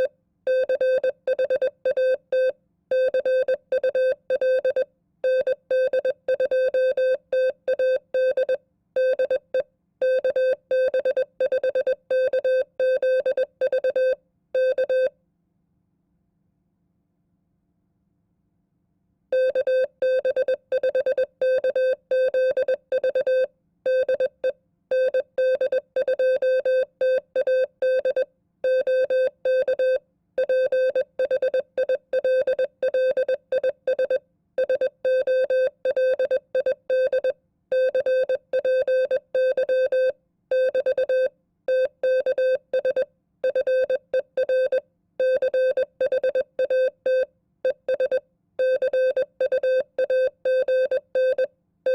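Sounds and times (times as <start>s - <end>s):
morse code beeps: 0.0s - 15.1s, 19.4s - 47.3s, 47.9s - 51.9s.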